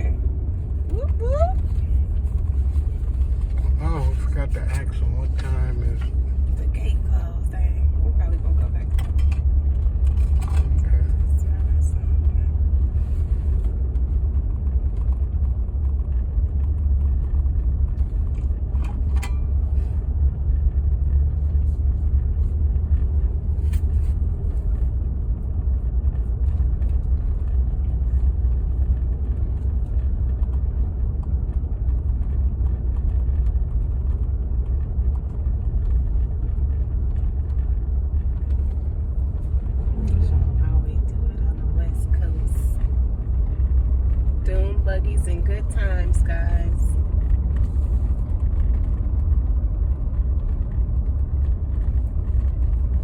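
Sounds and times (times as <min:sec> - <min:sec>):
truck engine and road rumble: 0:00.0 - 0:53.0.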